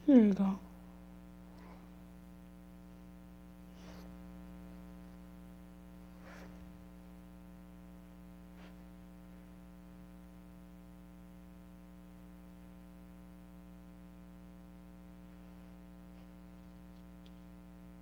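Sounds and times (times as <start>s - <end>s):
buzzy electrical hum: 0.0s - 18.0s.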